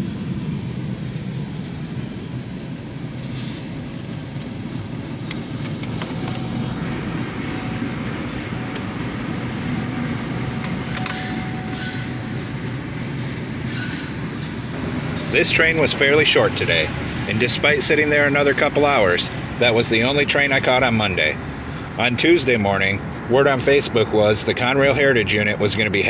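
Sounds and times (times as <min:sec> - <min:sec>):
freight train wheels rolling: 0:00.0 - 0:22.2.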